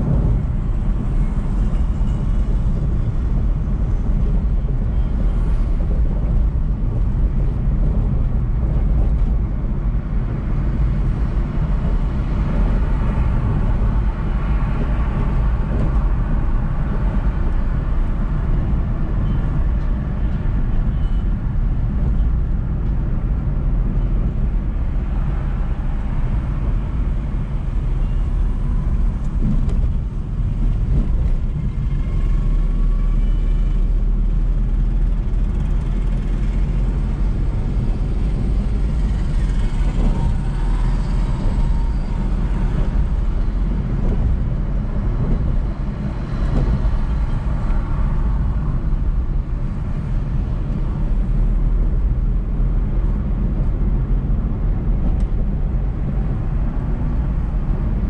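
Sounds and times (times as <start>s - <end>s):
car engine and tyre rumble: 0.0s - 58.0s
surrounding traffic: 0.0s - 58.0s.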